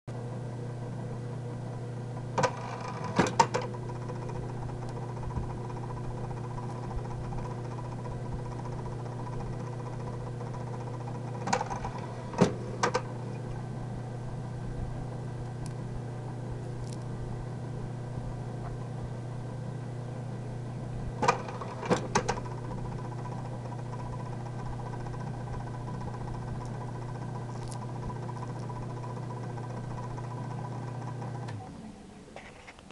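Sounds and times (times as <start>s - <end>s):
machine motor hum: 0.1s - 32.9s.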